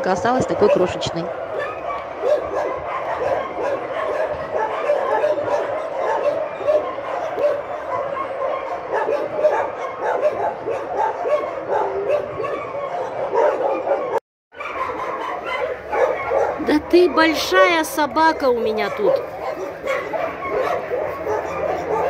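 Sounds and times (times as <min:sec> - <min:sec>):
many dogs barking: 0:00.0 - 0:22.0
puppy yapping: 0:00.2 - 0:22.0.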